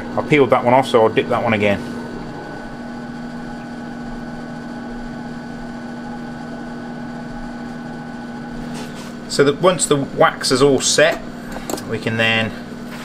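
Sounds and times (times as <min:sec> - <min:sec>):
electric fan humming: 0:00.0 - 0:13.0.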